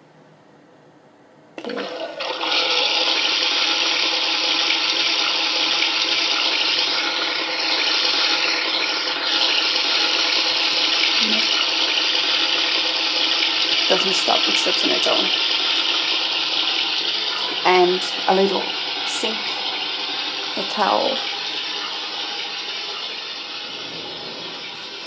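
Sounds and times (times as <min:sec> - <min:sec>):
recorded toilet flushing from speaker: 0:01.6 - 0:25.0.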